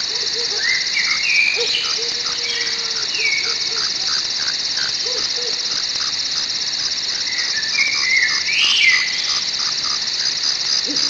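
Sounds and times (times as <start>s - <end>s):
birds calling: 0.0s - 11.0s
frogs calling: 0.0s - 11.0s
insect chorus: 0.0s - 11.0s.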